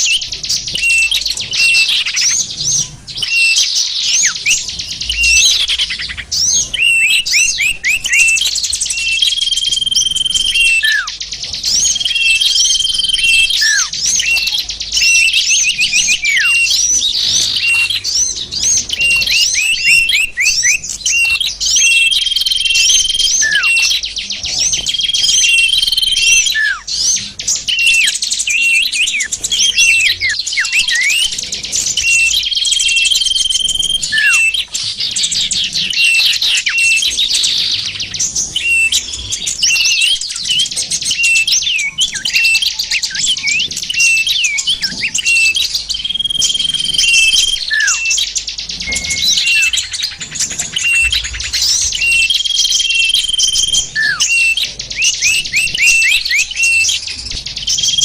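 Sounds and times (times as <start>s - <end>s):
songbirds chirping and calling: 0.0s - 58.0s.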